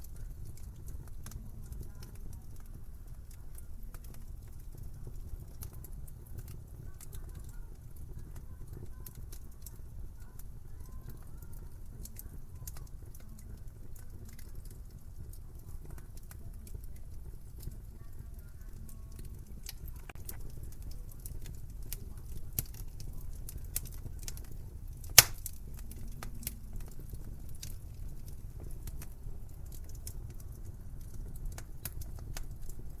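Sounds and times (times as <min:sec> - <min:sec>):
low rumble of burning fire: 0:00.0 - 0:33.0
wood fire crackling and popping: 0:00.0 - 0:33.0.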